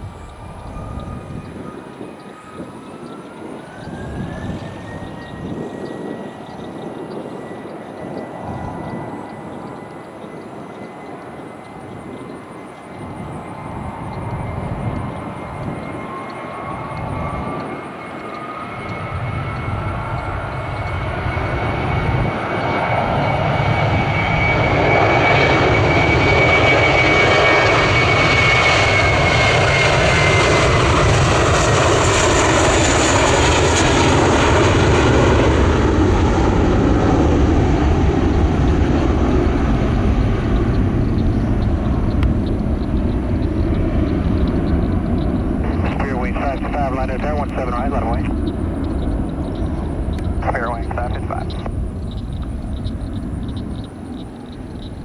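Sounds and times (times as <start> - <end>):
jet airliner engines passing: 0.0 - 55.0.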